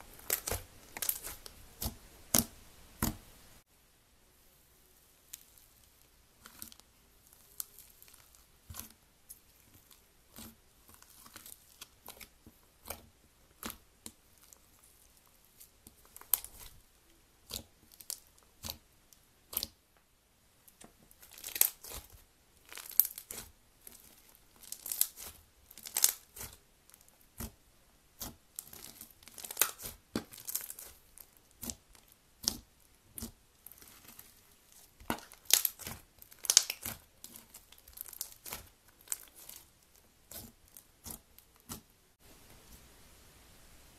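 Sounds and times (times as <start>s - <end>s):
slime crackling and popping: 0.0s - 3.3s, 5.3s - 16.8s, 17.4s - 19.8s, 20.7s - 27.6s, 28.2s - 41.9s.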